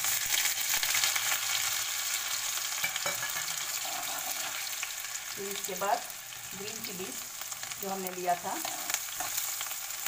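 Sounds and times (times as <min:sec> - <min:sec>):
ginger and garlic sizzling in oil: 0:00.0 - 0:10.0.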